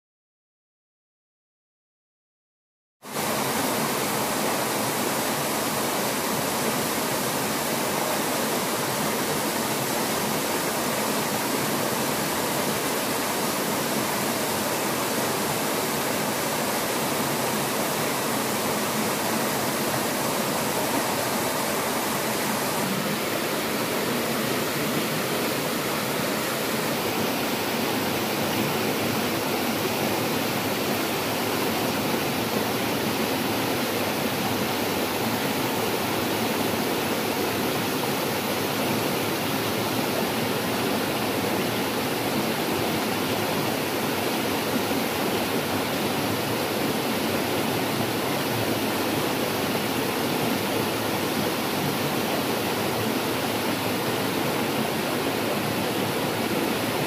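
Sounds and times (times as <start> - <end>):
small waterfall splashing over rocks: 3.1 - 57.0.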